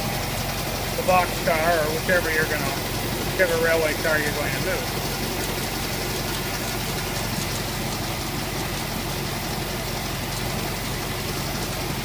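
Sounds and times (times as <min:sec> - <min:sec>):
engine idling steadily: 0:00.0 - 0:12.0.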